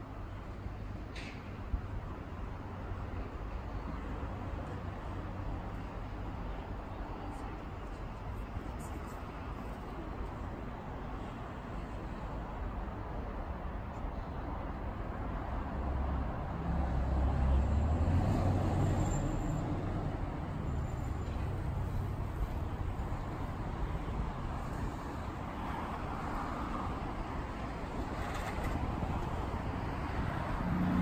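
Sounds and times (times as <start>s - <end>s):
rumble of passing cars: 0.0s - 31.0s.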